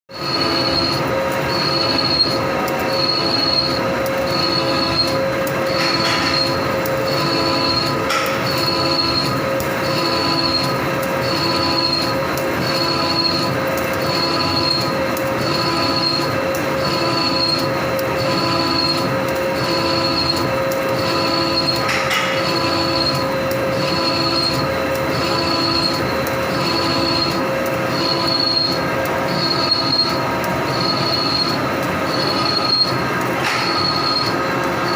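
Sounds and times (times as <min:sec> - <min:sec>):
high-pitched pulsing squeal: 0:00.1 - 0:34.9
lathe machine whine: 0:00.1 - 0:34.9.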